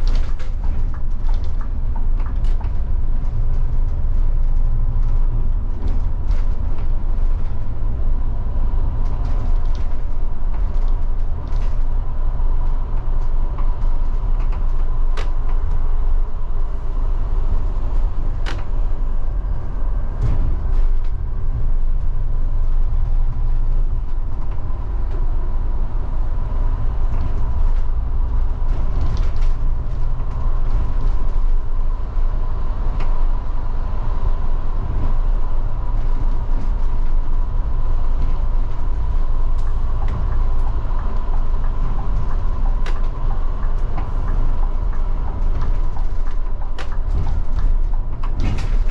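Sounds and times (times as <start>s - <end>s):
body clicks and creaks: 0.0s - 48.9s
bus engine and road rumble: 0.0s - 48.9s.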